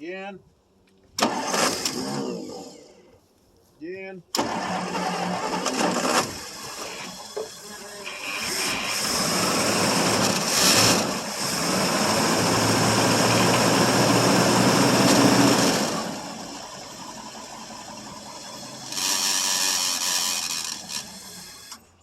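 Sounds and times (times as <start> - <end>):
noisy power steering pump: 1.2 - 2.9, 4.3 - 22.0
v eight engine starting and idling: 1.2 - 3.1, 4.3 - 22.0.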